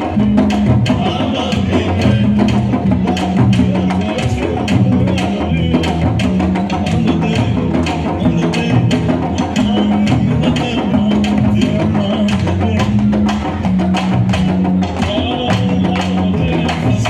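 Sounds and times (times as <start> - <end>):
low drum notes: 0.0 - 17.0.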